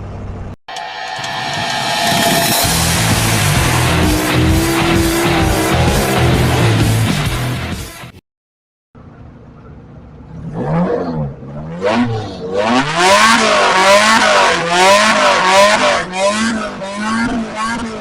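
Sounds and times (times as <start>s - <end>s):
engine revving hard: 1.2s - 7.9s, 10.3s - 18.0s.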